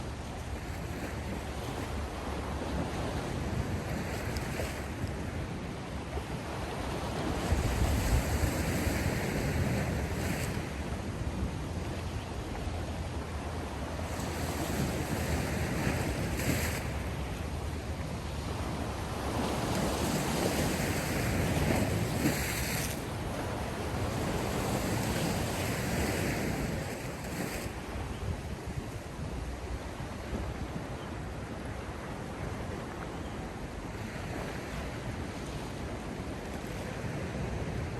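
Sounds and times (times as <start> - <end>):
sea surf washing ashore: 0.0 - 37.9
wind rumbling on microphone: 0.0 - 37.9.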